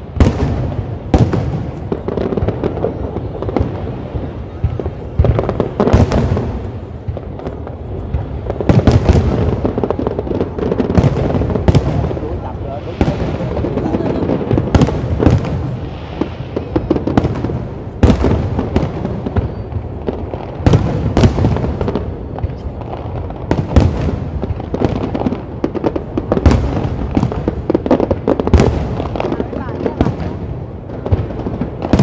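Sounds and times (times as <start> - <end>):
fireworks booming: 0.0 - 32.0.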